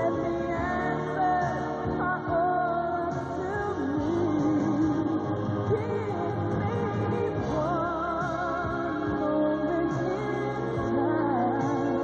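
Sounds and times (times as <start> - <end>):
slow background music: 0.0 - 12.0.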